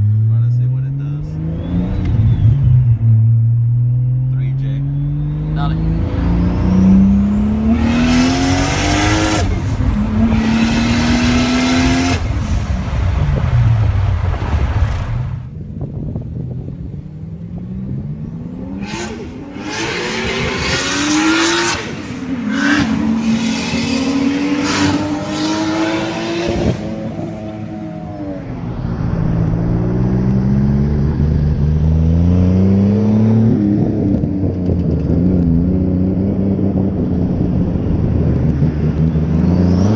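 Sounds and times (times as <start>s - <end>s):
car engine accelerating and shifting: 0.0s - 39.9s.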